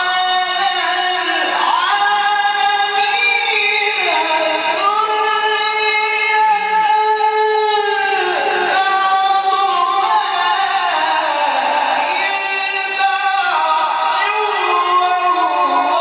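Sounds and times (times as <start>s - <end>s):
person chanting melodic recitation: 0.0s - 16.0s.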